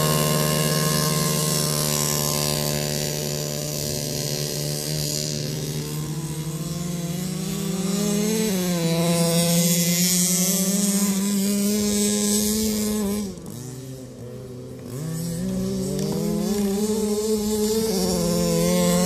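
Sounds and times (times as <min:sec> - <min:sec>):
small two-stroke engine revving: 0:00.0 - 0:19.0.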